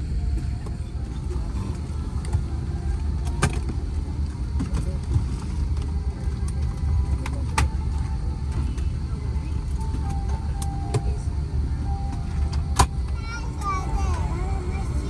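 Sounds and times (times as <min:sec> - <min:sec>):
cabin air hum: 0:00.0 - 0:15.0.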